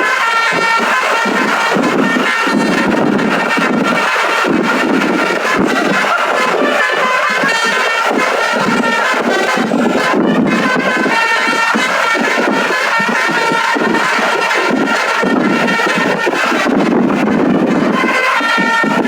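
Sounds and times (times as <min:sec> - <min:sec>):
bus air horn playing a melody: 0:00.0 - 0:19.0.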